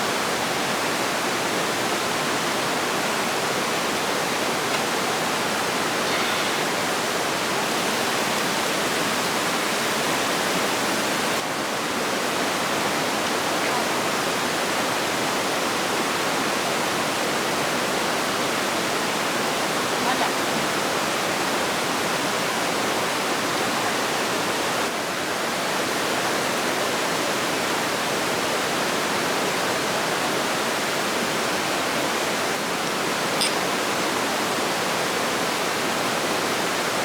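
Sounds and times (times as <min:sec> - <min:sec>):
steady rushing water: 0:00.0 - 0:37.0.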